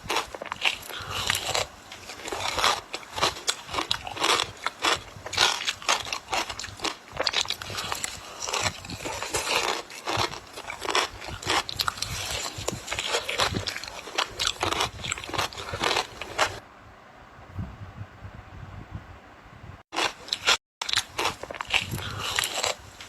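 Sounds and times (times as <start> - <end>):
ice being chewed: 0.0 - 16.6, 20.0 - 23.0.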